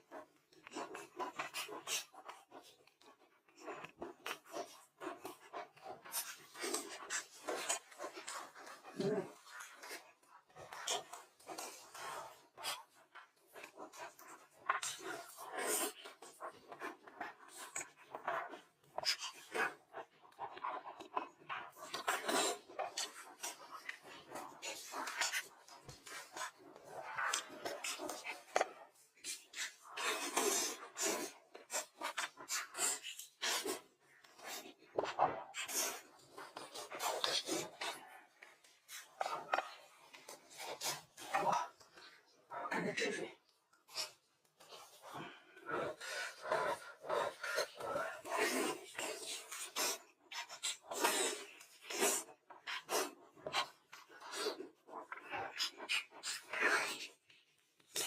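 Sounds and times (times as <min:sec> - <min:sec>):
crunching and chewing: 0:00.1 - 0:42.2, 0:43.9 - 0:57.2.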